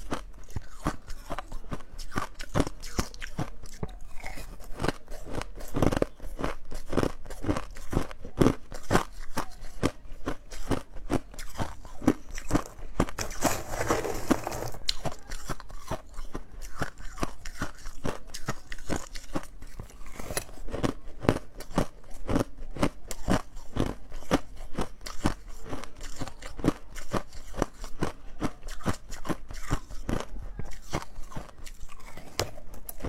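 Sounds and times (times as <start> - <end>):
ice being chewed: 0.0 - 33.0.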